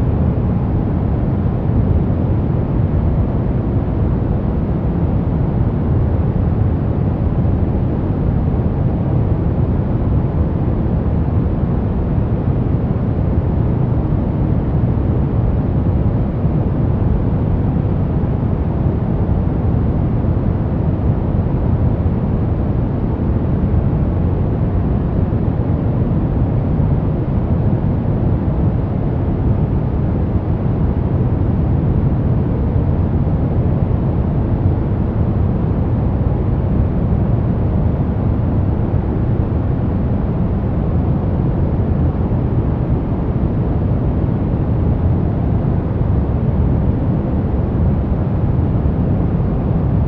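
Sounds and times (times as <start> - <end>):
deep white noise hiss: 0.0 - 50.0.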